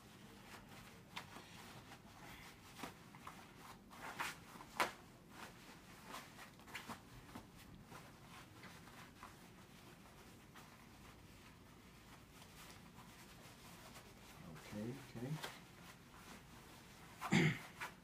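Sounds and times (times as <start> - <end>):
fabric rustling and scuffing: 0.0 - 18.0.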